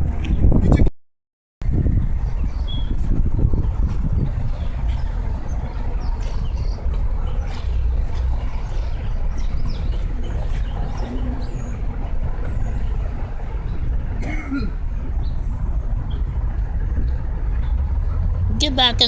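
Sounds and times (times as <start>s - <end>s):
low rumble: 1.6s - 19.0s.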